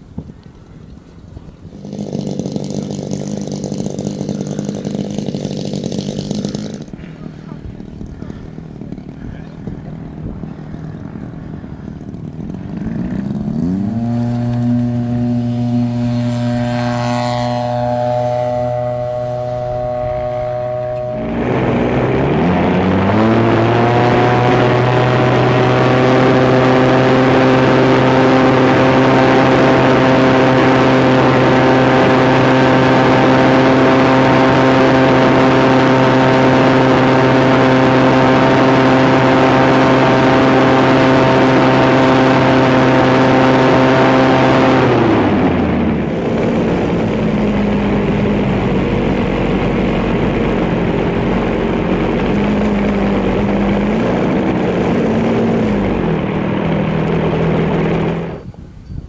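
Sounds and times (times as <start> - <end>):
model plane engine and propeller: 0.0 - 59.0.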